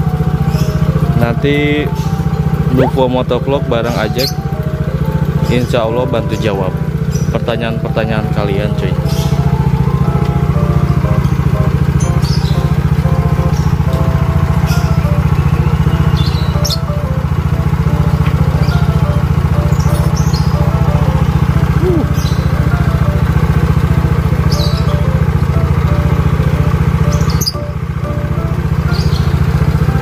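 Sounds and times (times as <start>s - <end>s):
scooter engine running: 0.0s - 30.0s.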